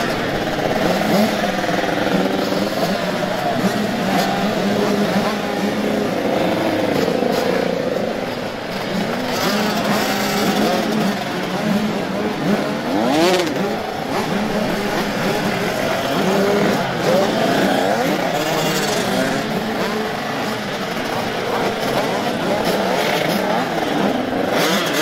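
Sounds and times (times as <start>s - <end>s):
motocross bike engines revving: 0.0s - 25.0s
rush of noise: 0.0s - 25.0s.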